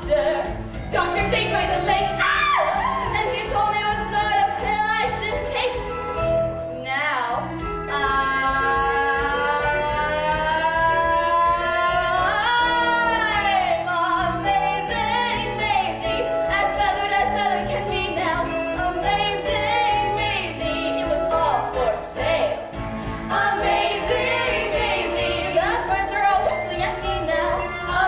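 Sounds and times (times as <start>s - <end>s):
woman singing: 0.0s - 5.8s, 6.8s - 22.6s, 23.3s - 28.0s
instrumental accompaniment: 0.0s - 28.0s.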